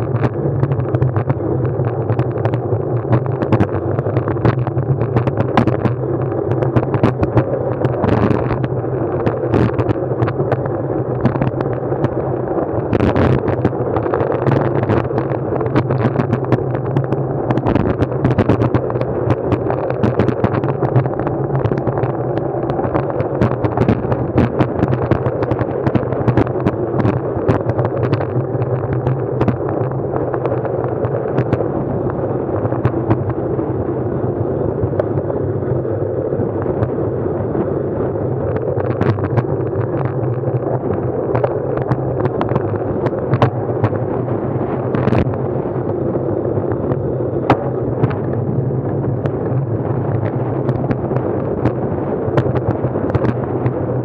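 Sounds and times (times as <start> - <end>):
rough microphone crackling: 0.0 - 54.0
wind buffeting microphone: 0.0 - 54.0.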